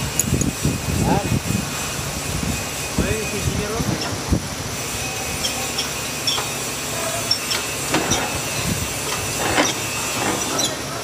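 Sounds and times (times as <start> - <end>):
steady shop noise hiss: 0.0 - 11.0.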